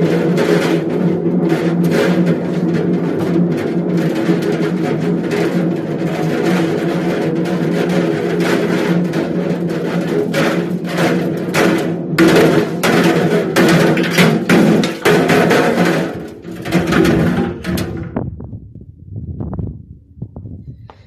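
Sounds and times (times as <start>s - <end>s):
objects banging in drum: 0.0s - 18.6s.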